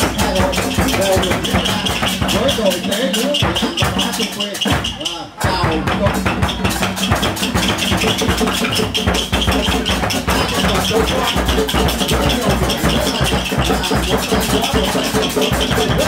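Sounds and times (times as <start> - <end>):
loud music with fast beat: 0.0 - 16.0.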